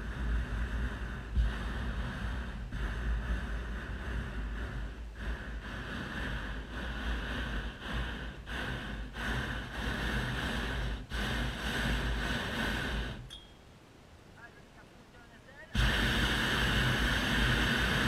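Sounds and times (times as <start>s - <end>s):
propane burner roaring: 0.0s - 13.4s, 15.7s - 18.0s.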